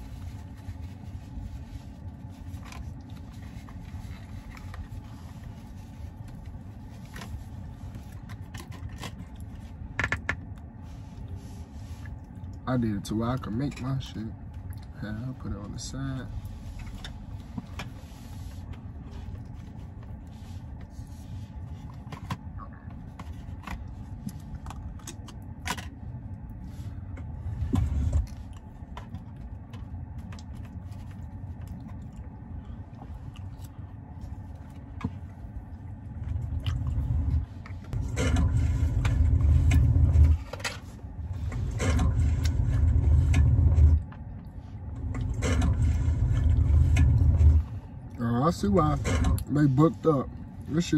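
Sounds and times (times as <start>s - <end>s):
car cabin low rumble: 0.0s - 50.9s.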